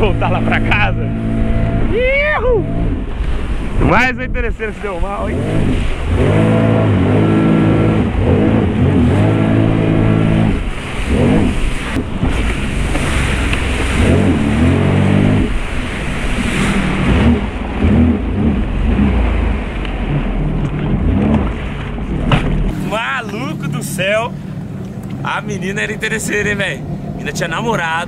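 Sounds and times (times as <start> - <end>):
jet ski engine revving: 0.0 - 28.0
water rushing and spraying: 0.0 - 28.0.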